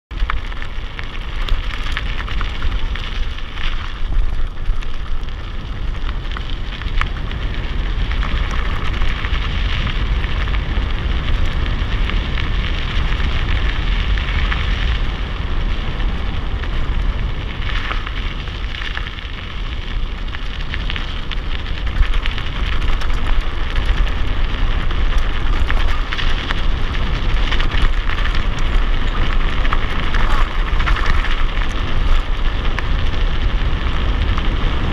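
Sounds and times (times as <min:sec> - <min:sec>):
bike tyres rolling on gravel: 0:00.1 - 0:34.9
wind buffeting microphone: 0:00.1 - 0:34.9.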